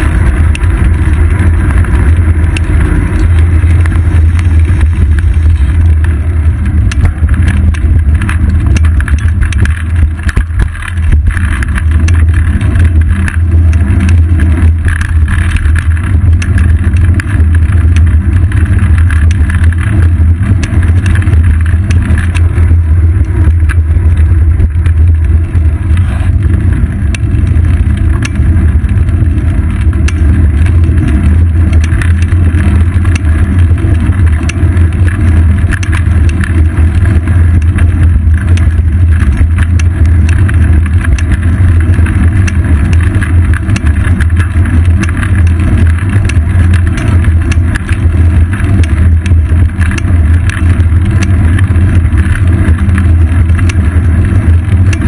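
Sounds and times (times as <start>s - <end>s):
wind buffeting and road rumble: 0.0s - 55.0s.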